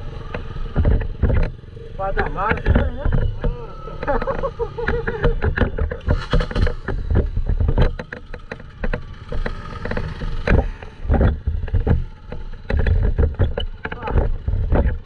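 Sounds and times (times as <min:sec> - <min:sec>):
dirt bike engine rumbling: 0:00.0 - 0:15.0
sharp knocks and rattles: 0:00.0 - 0:15.0.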